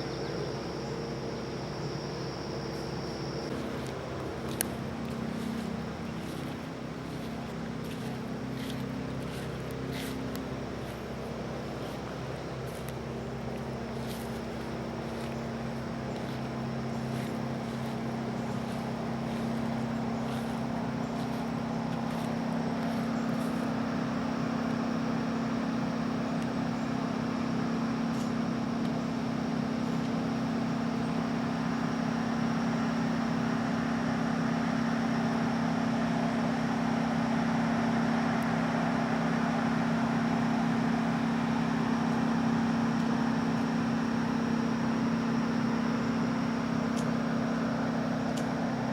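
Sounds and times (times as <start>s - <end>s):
mechanical hum over noisy rush: 0.0s - 48.9s.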